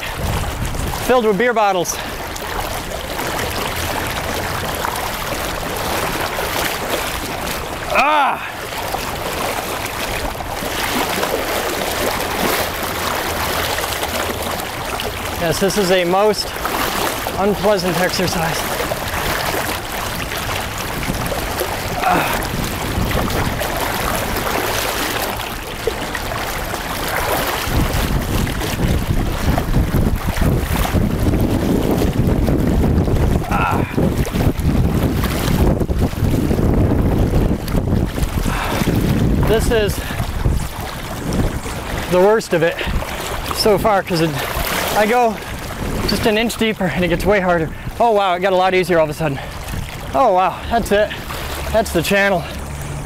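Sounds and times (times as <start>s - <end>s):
river water rushing around wader: 0.0s - 53.0s
splashing while wading: 0.0s - 53.0s
wind buffeting microphone: 0.0s - 53.0s.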